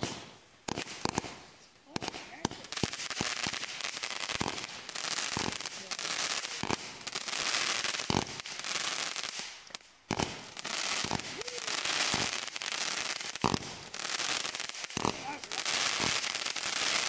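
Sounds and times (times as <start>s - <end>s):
fireworks crackling hiss: 0.0s - 17.0s.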